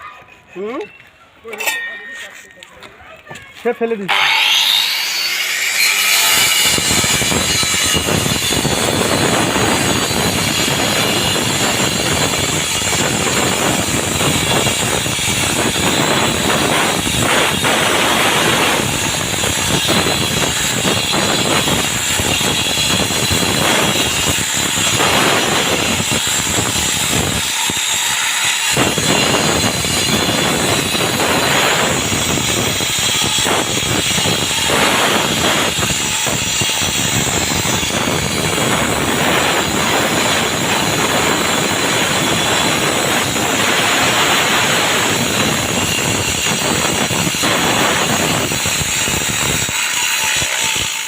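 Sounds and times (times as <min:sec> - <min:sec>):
concrete saw grinding with whine: 0:03.8 - 0:51.0.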